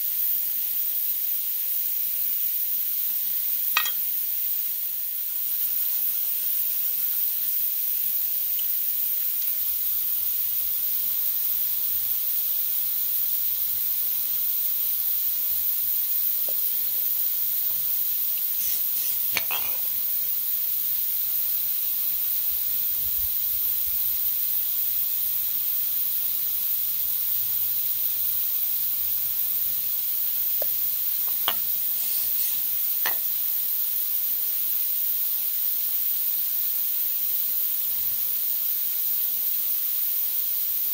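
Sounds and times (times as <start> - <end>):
steady high hiss: 0.0 - 40.9.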